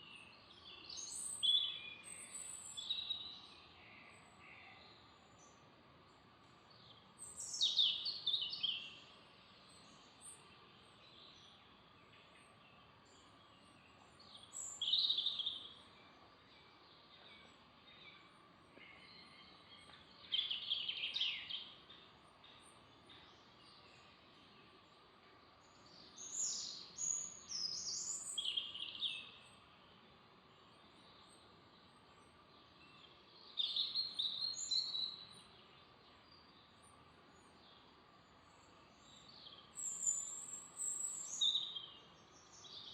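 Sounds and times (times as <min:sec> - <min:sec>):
faint steady hiss: 0:00.0 - 0:42.9
songbird singing: 0:00.0 - 0:42.9.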